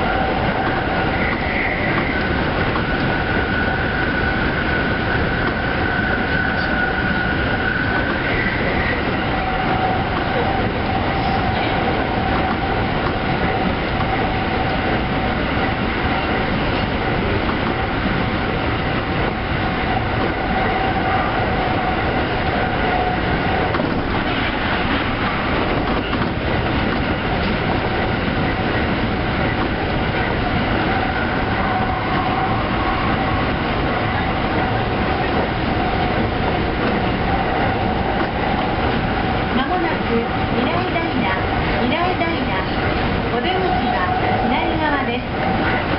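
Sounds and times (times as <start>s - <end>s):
electric train whine: 0.0s - 45.9s
train wheels rumbling on rail: 0.0s - 45.9s.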